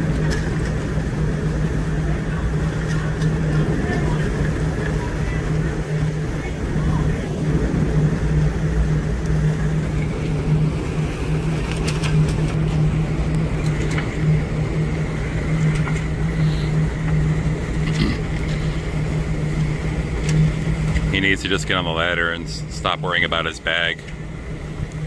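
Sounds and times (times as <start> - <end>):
low machinery hum: 0.0 - 25.0
wind and sea rushing: 0.0 - 25.0.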